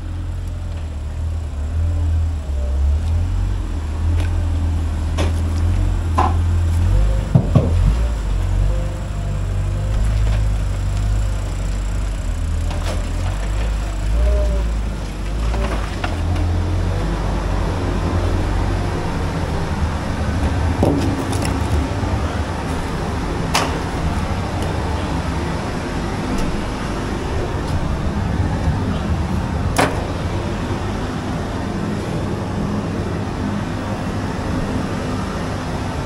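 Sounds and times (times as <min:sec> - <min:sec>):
low machine rumble: 0:00.0 - 0:36.0.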